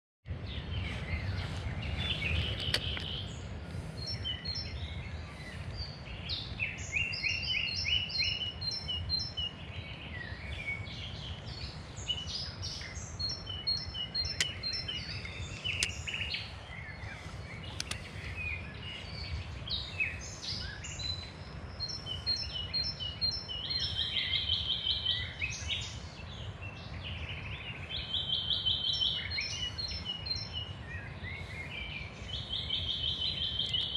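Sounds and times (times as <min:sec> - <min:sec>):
steady low rumble: 0:00.3 - 0:28.6
birds chirping and trilling: 0:00.3 - 0:33.9.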